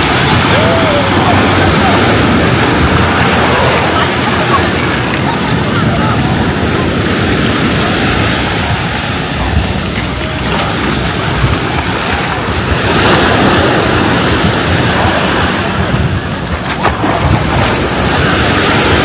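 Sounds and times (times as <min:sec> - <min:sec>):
surf washing onto beach: 0:00.0 - 0:19.0
wind buffeting microphone: 0:00.0 - 0:19.0.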